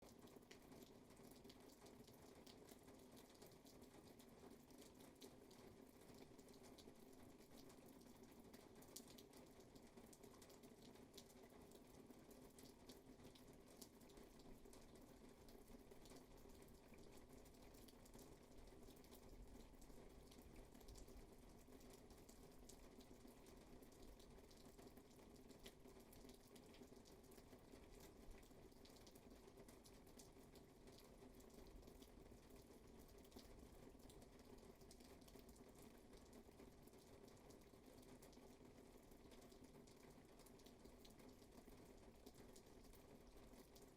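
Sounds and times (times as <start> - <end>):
raindrop ticks: 0.0 - 43.9.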